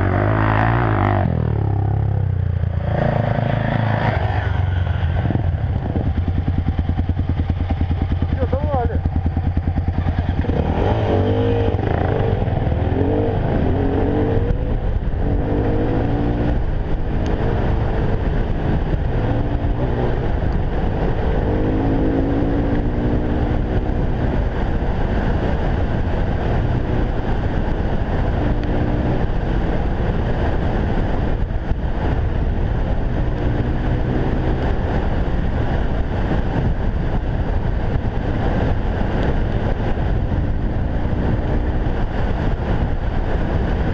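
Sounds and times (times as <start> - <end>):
motorcycle engine revving: 0.0 - 43.9
wind and ride noise: 0.0 - 43.9.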